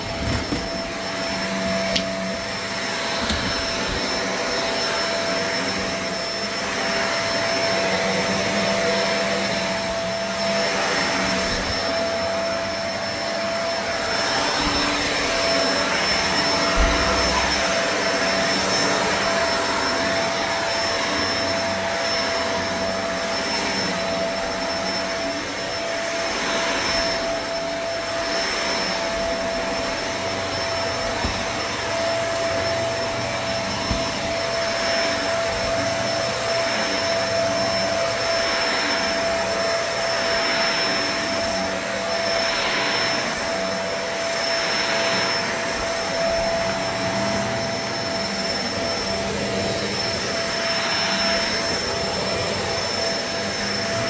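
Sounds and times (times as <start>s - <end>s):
vacuum cleaner running over carpet: 0.0s - 54.0s.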